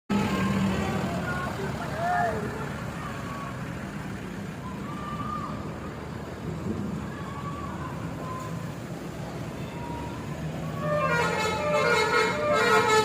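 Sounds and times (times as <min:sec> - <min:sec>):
traffic engine rumble: 0:00.1 - 0:13.0.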